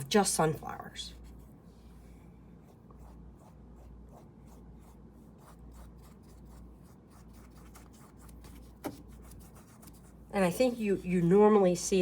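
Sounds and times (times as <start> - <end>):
paintbrush strokes: 1.0 - 12.0.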